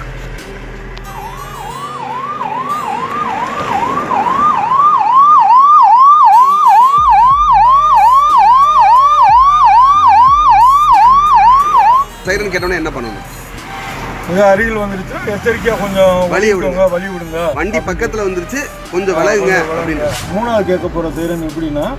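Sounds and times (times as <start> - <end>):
ambulance siren wailing: 0.0 - 21.6.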